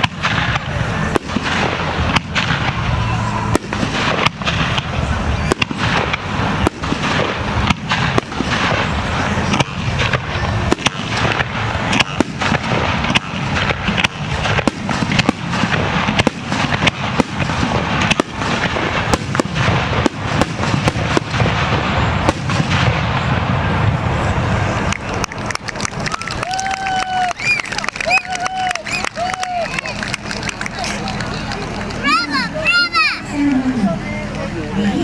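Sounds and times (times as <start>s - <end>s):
firework bangs: 0.0s - 33.3s
firework crackling: 0.0s - 35.0s.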